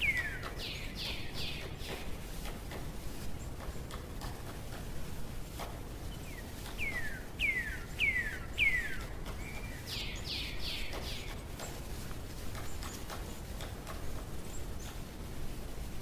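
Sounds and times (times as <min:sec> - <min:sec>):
songbird singing: 0:00.0 - 0:04.0, 0:05.9 - 0:15.2
faint scattered ticks: 0:00.0 - 0:16.0
steady outdoor hiss: 0:00.0 - 0:16.0.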